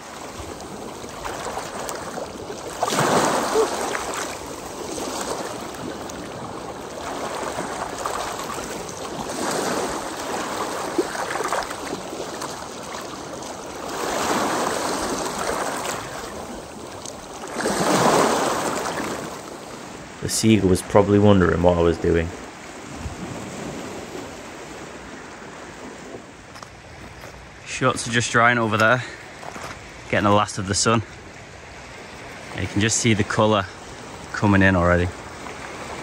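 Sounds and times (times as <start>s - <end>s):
waves washing over pebbles: 0.0s - 36.0s.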